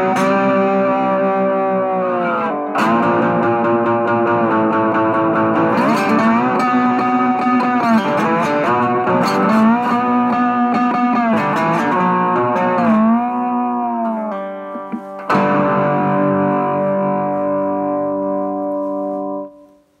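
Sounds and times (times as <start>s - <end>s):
electric string instrument notes: 0.0s - 19.9s.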